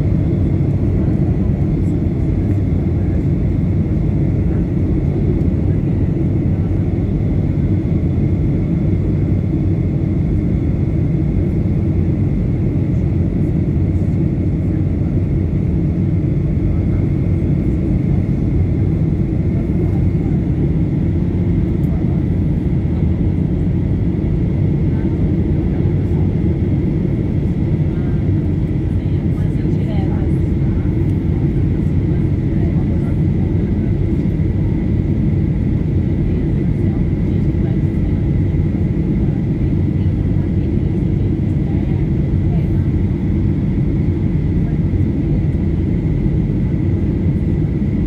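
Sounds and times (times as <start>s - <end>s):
aircraft engine rumble: 0.0s - 48.0s
airflow over fuselage: 0.0s - 48.0s.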